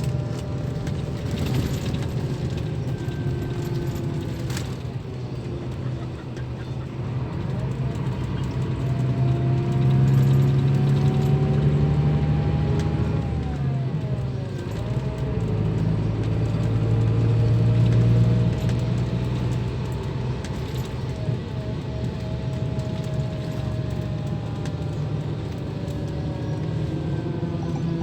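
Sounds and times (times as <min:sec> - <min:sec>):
bus diesel engine under load: 0:00.0 - 0:28.0.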